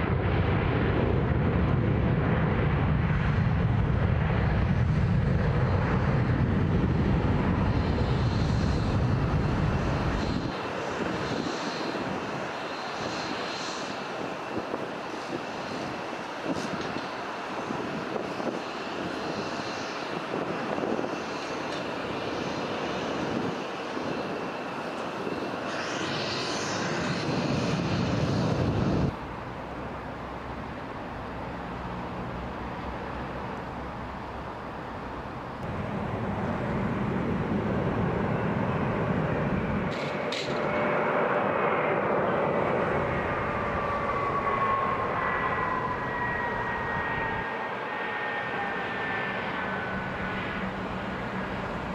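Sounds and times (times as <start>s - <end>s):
jet airliner engines: 0.0s - 51.9s.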